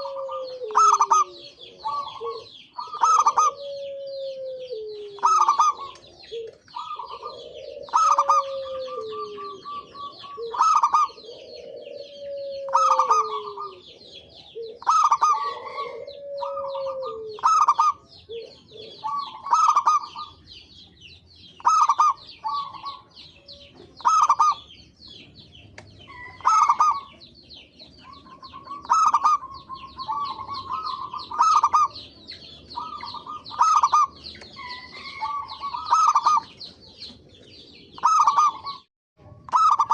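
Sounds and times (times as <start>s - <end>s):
low falling bird calls: 0.0s - 38.9s
doves cooing: 0.0s - 39.9s
small birds chirping: 0.0s - 39.9s.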